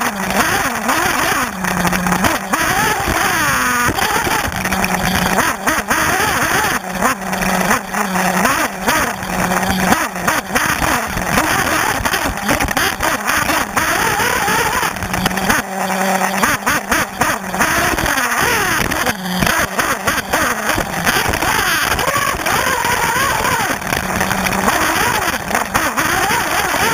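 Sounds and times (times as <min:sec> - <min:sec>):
chassis knocks and rattles: 0:00.0 - 0:26.9
model engine revving: 0:00.0 - 0:26.9.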